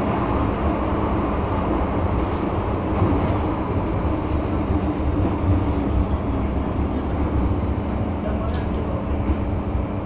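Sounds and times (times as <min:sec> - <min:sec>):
metro train wheels rumbling: 0:00.0 - 0:10.0.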